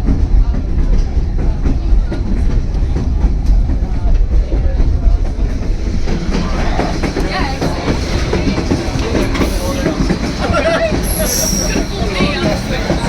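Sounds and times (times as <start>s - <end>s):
train wheels clickety-clack: 0.0s - 13.0s.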